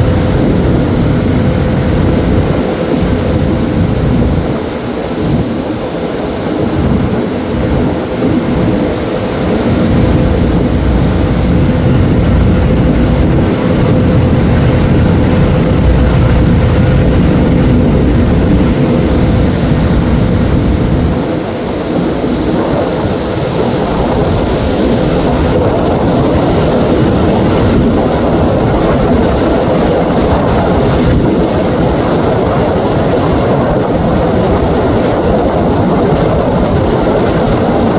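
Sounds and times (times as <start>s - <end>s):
ferry engine rumble: 0.0s - 37.9s
steady hum: 0.0s - 37.9s.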